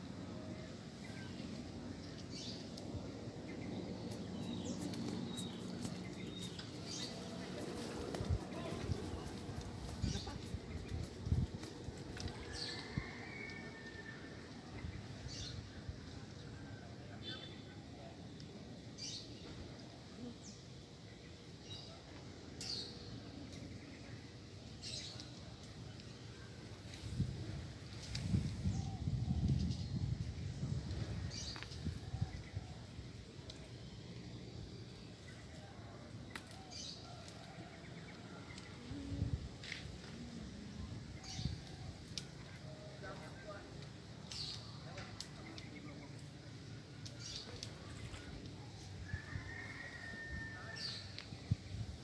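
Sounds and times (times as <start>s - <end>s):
low outdoor background noise: 0.0s - 52.0s.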